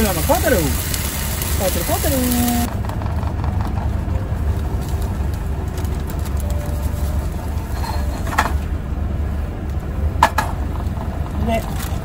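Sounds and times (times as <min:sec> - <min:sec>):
diesel truck engine idling: 0:00.0 - 0:12.0
frying pan sizzling: 0:00.0 - 0:12.0.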